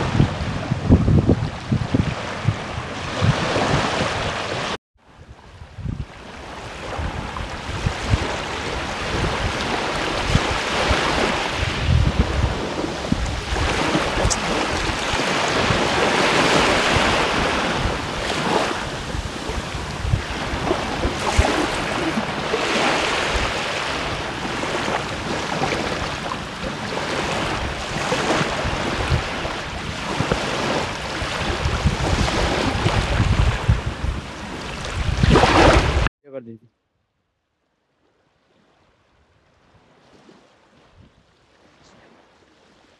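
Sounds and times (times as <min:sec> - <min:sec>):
small waves washing onto shore: 0:00.0 - 0:36.1, 0:38.0 - 0:42.9
wind buffeting microphone: 0:00.0 - 0:36.1.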